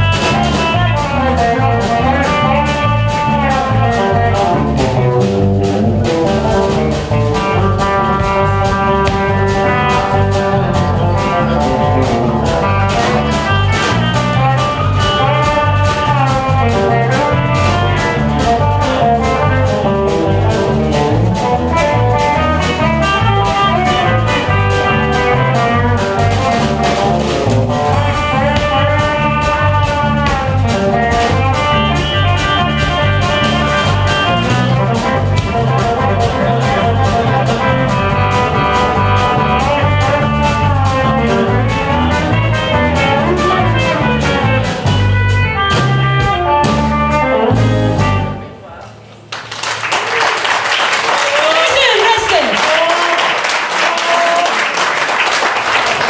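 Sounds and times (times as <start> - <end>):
electric guitar: 0.0 - 49.0
live band instrumental: 0.0 - 56.0.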